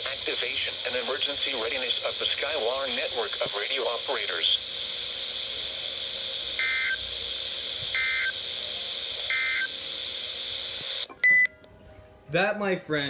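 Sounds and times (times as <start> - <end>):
radio data tone bursts: 0.0 - 11.4.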